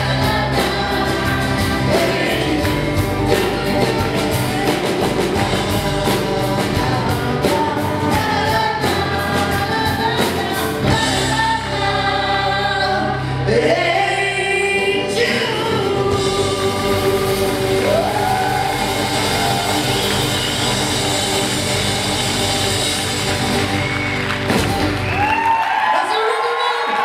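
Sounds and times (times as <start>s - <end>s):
voices singing together: 0.0s - 21.9s.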